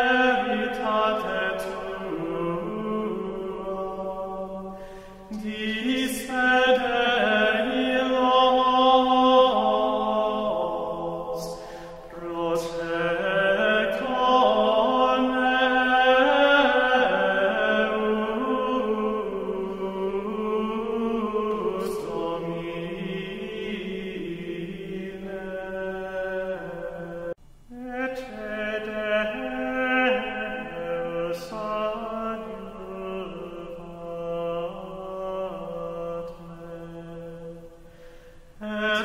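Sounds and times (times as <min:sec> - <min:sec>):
voices chanting slowly: 0:00.0 - 0:39.0.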